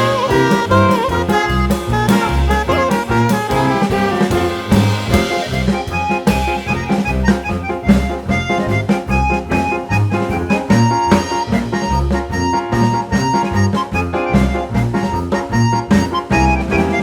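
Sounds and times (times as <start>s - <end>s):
upbeat jazzy music with brass: 0.0s - 17.0s.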